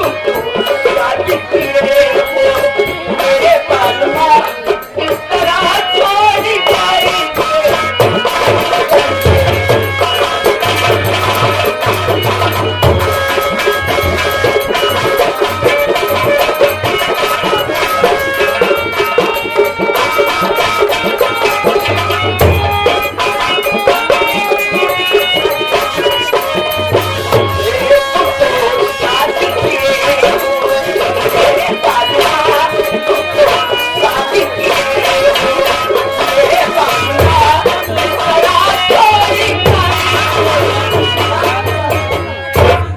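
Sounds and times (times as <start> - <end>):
hand drums beating: 0.0 - 42.9
sustained instrumental melody: 0.0 - 42.9.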